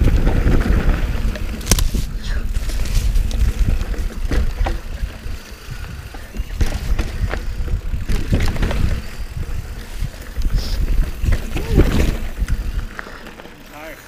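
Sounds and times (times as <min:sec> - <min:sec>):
wind rumble on microphone: 0:00.0 - 0:13.0
bike clacking and rattling: 0:00.0 - 0:14.0
bike tyre noise on dirt: 0:00.0 - 0:14.0.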